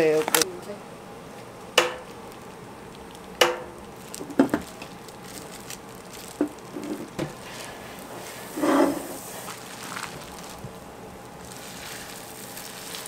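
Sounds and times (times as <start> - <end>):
low steady sizzle: 0.0 - 13.0.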